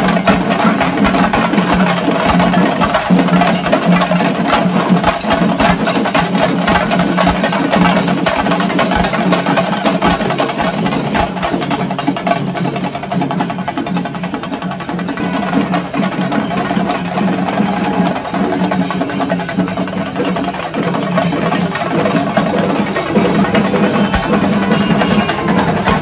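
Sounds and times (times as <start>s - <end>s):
percussion music with drums: 0.0s - 26.0s.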